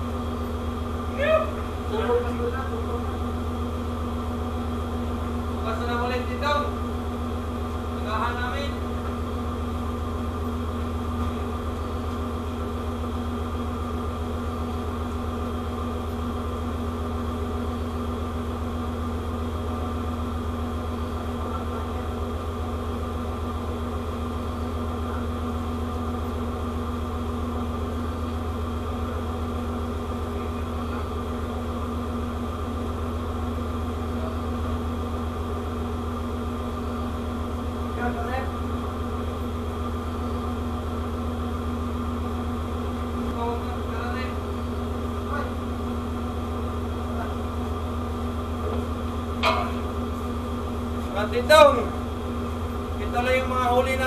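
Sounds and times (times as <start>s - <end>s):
machinery drone: 0.0s - 54.0s
ventilation hiss: 0.0s - 54.0s.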